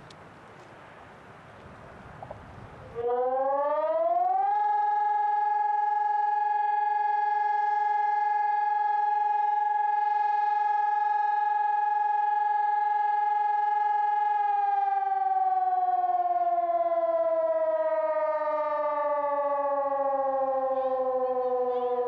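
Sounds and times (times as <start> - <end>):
electronic siren steady tone: 2.8 - 22.0.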